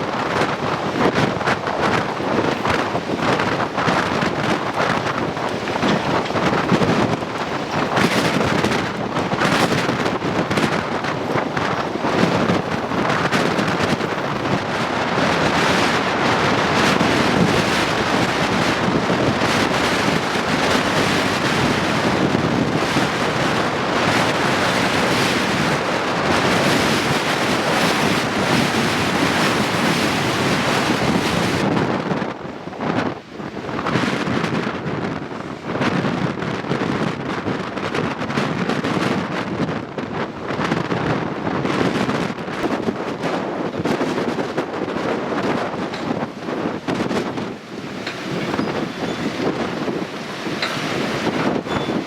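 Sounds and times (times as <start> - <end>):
ocean surf breaking: 0.0 - 52.0
wind buffeting microphone: 0.0 - 52.0.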